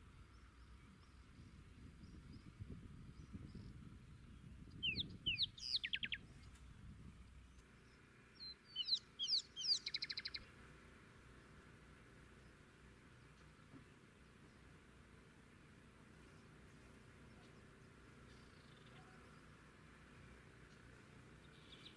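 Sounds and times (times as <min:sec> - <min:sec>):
songbird singing: 0:00.0 - 0:21.9.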